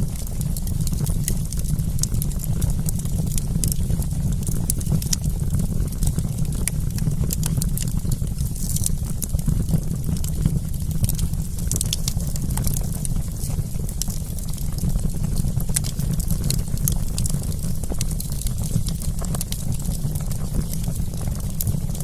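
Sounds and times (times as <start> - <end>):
campfire crackling: 0.0 - 22.0
fire pops and snaps: 0.0 - 22.0
low fire rumble: 0.0 - 22.0.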